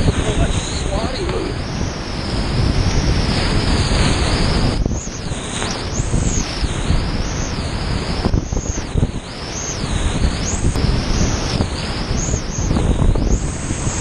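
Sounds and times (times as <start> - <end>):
water and wind buffeting microphone: 0.0 - 14.0.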